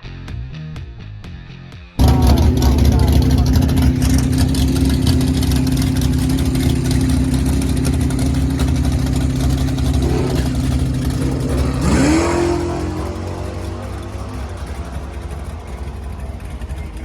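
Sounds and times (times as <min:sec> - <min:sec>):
car engine idling: 0:02.0 - 0:17.0.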